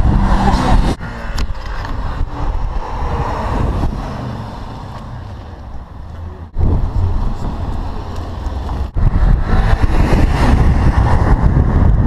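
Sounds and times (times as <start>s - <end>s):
distant car engine and exhaust: 0.0s - 12.0s
wind buffeting microphone: 0.0s - 12.0s.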